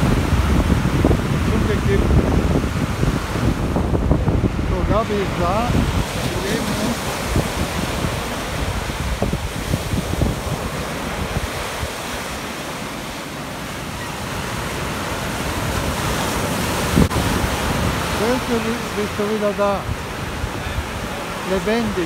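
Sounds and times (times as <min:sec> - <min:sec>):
small waves breaking on sand: 0:00.0 - 0:22.0
wind buffeting microphone: 0:00.0 - 0:22.0.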